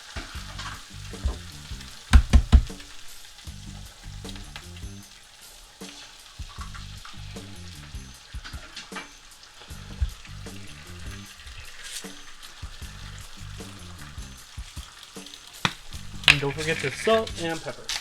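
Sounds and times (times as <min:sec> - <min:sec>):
grease sizzling in a frying pan: 0:00.0 - 0:18.0
quiet background music: 0:00.0 - 0:18.0.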